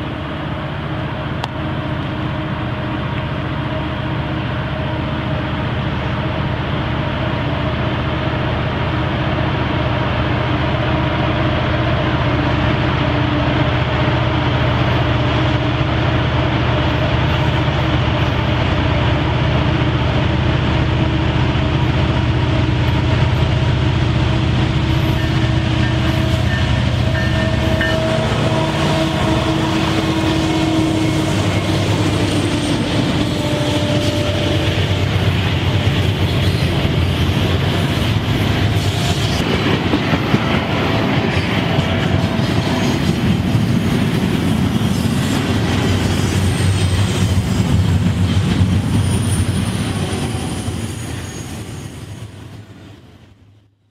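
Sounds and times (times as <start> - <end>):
freight cars rumbling on rails: 0.0 - 53.6
locomotive engines droning: 0.0 - 53.6.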